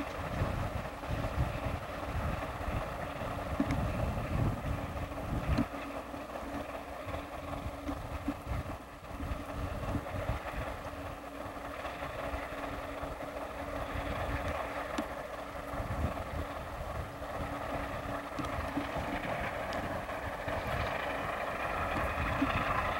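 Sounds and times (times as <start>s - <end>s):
diesel locomotive engine drone: 0.0s - 22.9s
wind buffeting microphone: 0.0s - 22.9s.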